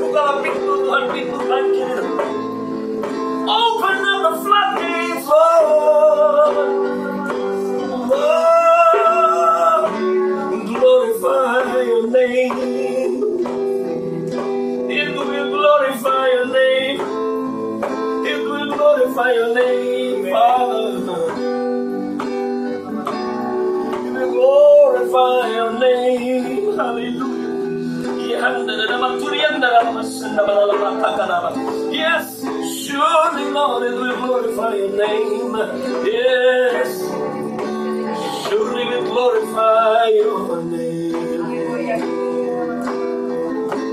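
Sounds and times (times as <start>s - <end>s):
electronic keyboard chords: 0.0s - 43.9s
man singing: 0.0s - 43.9s.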